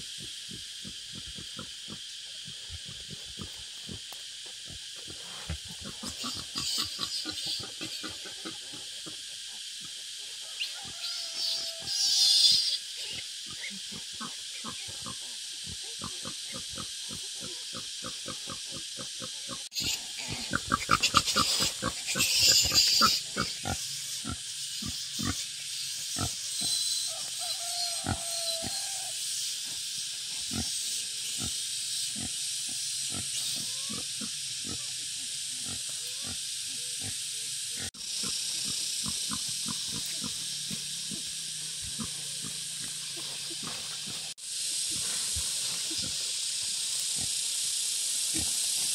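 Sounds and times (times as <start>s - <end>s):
steady high hiss: 0.0s - 48.9s.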